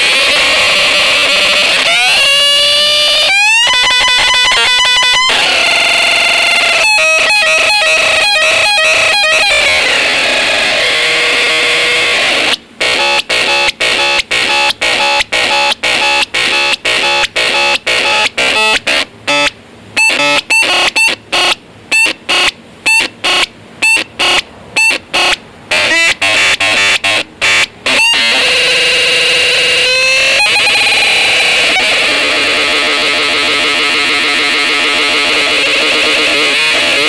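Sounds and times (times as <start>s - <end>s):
harsh noisy synth tones: 0.0s - 37.0s.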